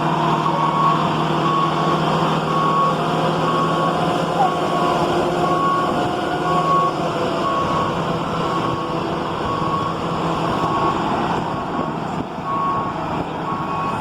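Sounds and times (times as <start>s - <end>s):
engine-like noise: 0.0s - 14.0s.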